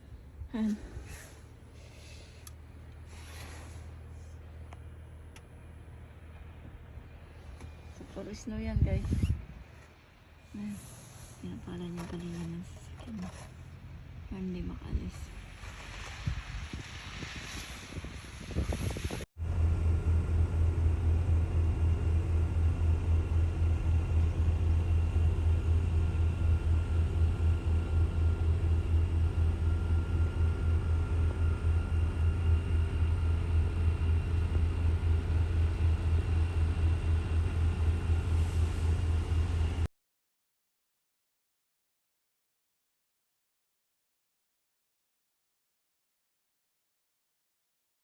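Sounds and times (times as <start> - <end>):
engine rumbling with whine: 0.0 - 39.9.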